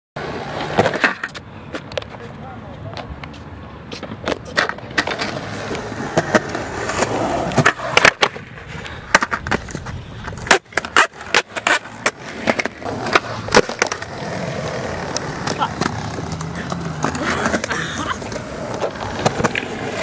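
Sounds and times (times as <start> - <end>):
skateboard clacks: 0.2 - 20.0
skateboard wheels rolling on concrete: 0.2 - 20.0.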